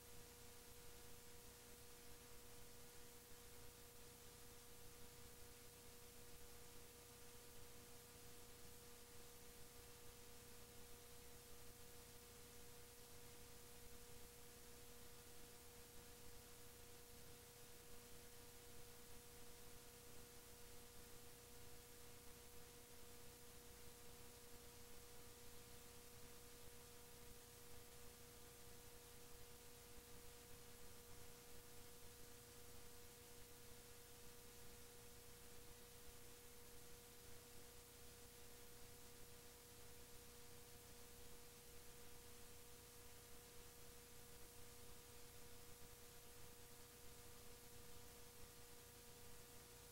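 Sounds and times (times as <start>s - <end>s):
tape hiss: 0.0s - 49.9s.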